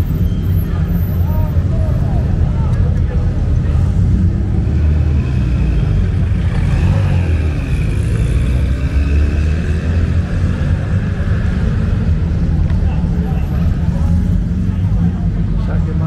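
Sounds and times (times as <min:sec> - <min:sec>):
car engines rumbling and revving: 0:00.0 - 0:16.0.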